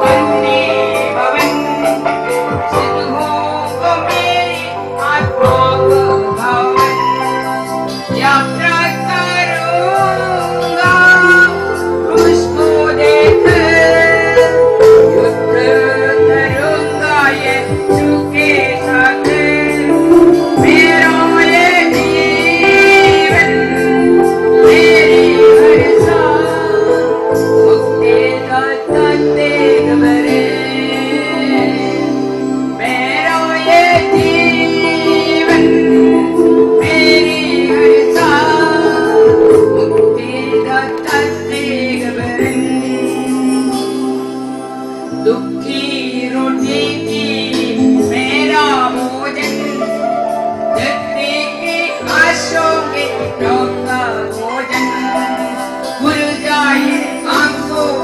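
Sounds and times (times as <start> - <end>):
sustained keyboard chords: 0.0 - 58.0
worship song music: 0.0 - 58.0.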